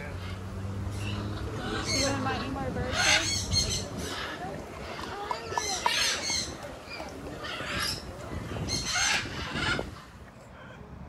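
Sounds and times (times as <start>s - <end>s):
parrots squawking: 0.1s - 10.7s.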